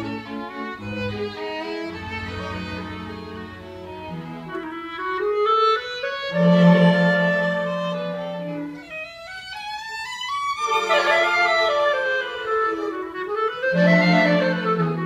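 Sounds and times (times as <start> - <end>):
chamber ensemble playing classical music: 0.0 - 15.0.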